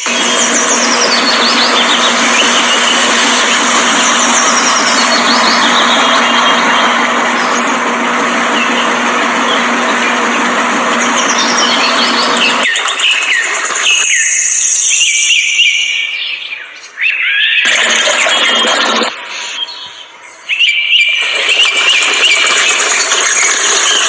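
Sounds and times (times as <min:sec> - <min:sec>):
small motor humming: 0:00.0 - 0:15.1, 0:17.7 - 0:19.2, 0:21.1 - 0:24.0
birds chirping: 0:00.0 - 0:24.0.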